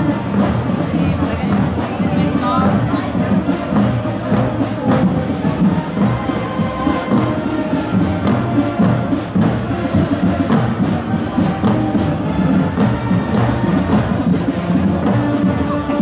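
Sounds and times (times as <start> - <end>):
drum and fife marching band: 0.0 - 16.0.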